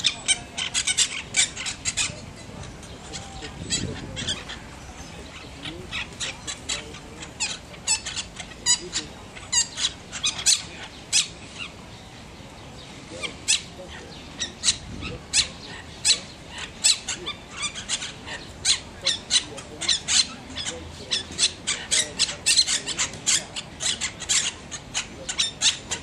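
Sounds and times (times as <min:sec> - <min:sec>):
parakeets chirping: 0:00.0 - 0:26.0.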